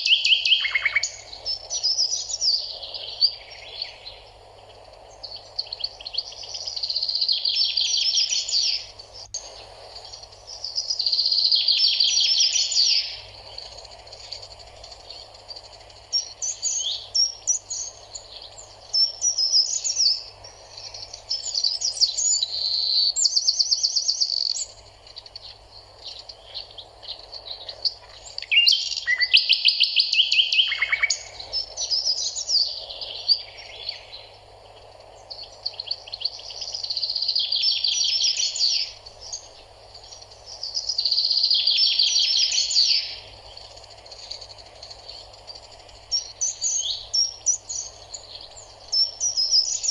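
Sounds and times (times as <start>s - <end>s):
birds singing: 0.0s - 49.9s
faint steady hum: 0.0s - 49.9s.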